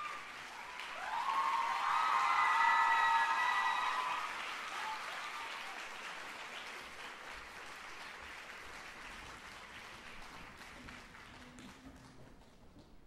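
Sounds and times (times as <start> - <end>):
audience applause: 0.0 - 12.6.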